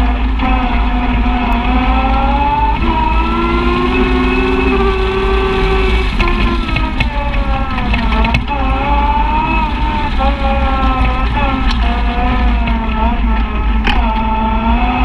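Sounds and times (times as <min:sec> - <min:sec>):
utility vehicle engine running: 0:00.0 - 0:15.0
wind and tyre rumble: 0:00.0 - 0:15.0.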